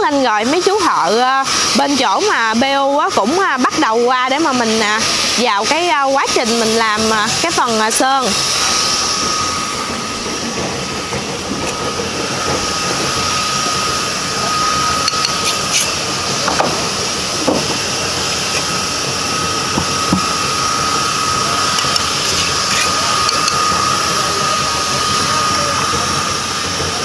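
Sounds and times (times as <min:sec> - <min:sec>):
high machine whine: 0:00.0 - 0:27.0
machine hissing: 0:00.4 - 0:27.0.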